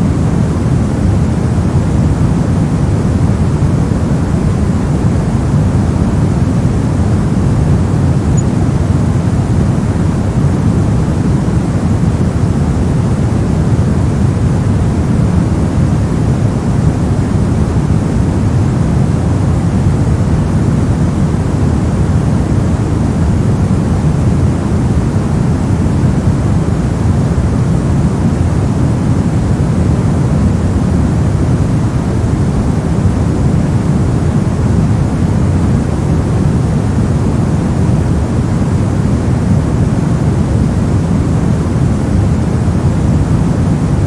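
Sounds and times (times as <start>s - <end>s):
deep white noise: 0.0s - 44.0s.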